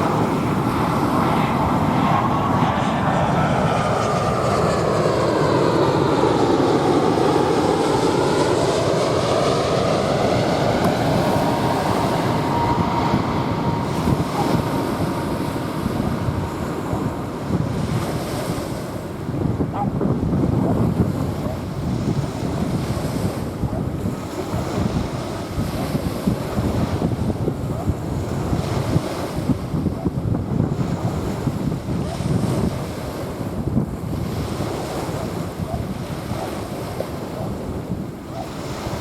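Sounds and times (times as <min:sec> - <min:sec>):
small waves washing on sand: 0:00.0 - 0:19.8, 0:20.7 - 0:39.0
jet airliner passing overhead: 0:00.0 - 0:39.0
wind on microphone: 0:00.0 - 0:39.0.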